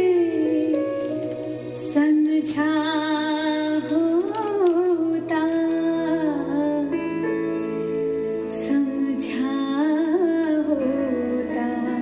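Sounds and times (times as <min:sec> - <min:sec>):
music with wavering melody: 0:00.0 - 0:12.0.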